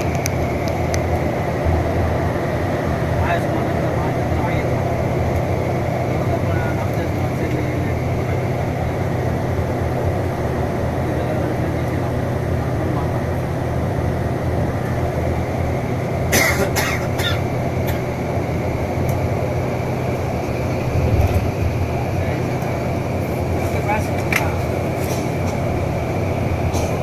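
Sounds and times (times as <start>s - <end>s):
bus diesel engine and road noise: 0.0s - 27.0s.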